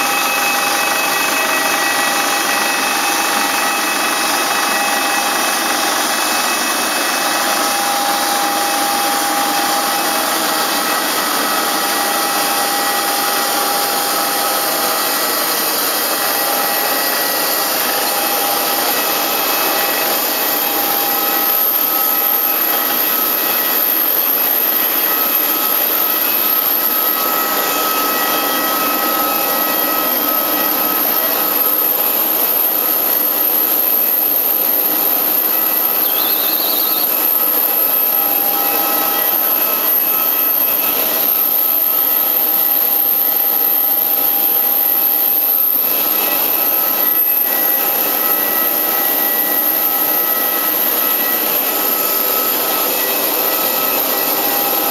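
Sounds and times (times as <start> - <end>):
high steady whine: 0.0 - 54.9.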